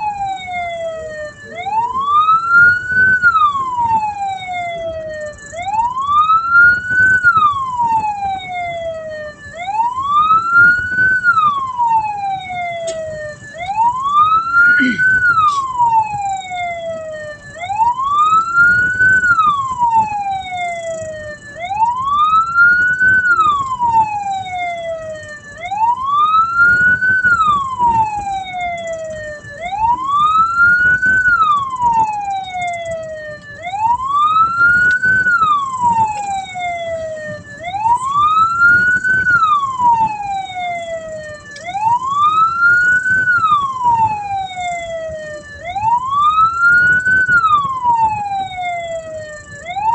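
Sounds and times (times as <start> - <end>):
low vehicle rumble: 0.0 - 49.9
siren wailing: 0.0 - 49.9.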